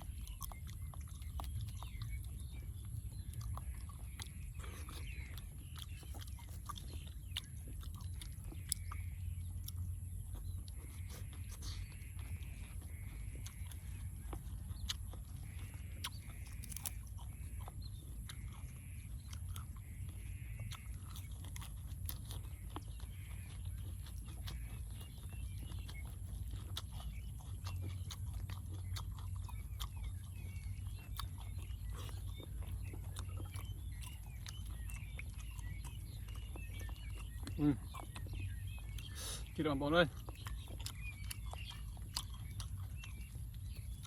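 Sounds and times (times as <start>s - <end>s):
person chewing food: 0.0s - 44.0s.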